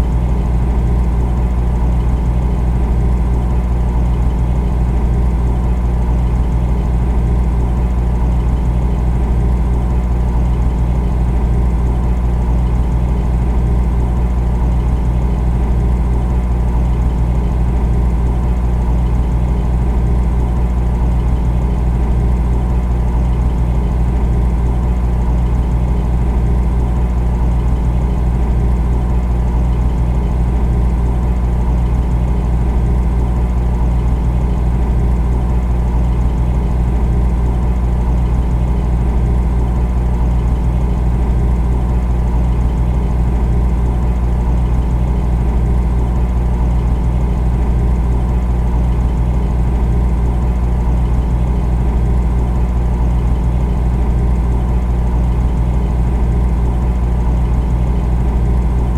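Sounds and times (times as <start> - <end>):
refrigerator compressor humming: 0.0 - 58.9.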